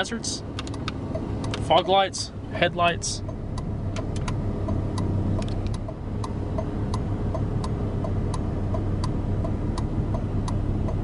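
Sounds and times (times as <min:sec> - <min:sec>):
car engine idling: 0:00.0 - 0:11.0
hazard light relay ticking: 0:00.0 - 0:11.0.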